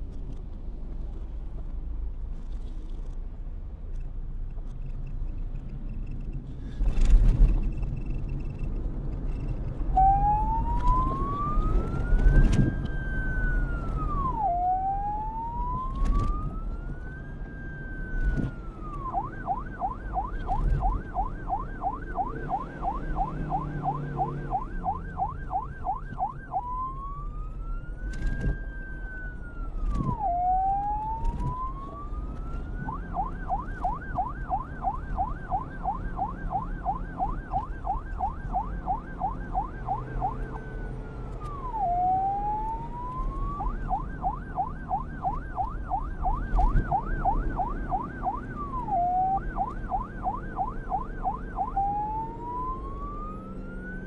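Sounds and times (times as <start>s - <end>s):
reversed police siren: 6.6s - 54.0s.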